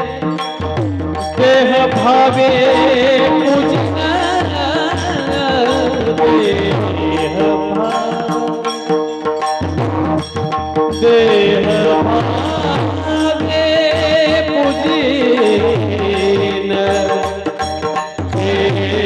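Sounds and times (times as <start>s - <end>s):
person singing melody: 0.0s - 19.0s
sharp percussive strikes: 0.0s - 19.0s.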